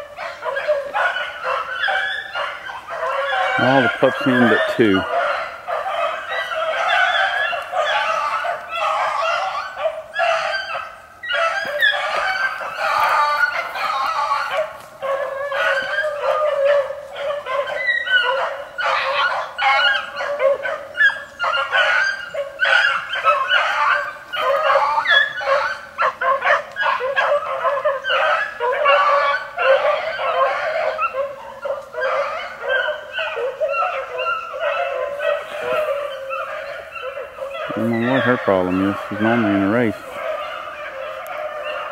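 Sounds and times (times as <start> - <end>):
beagle pups baying and yipping: 0.0 - 41.9.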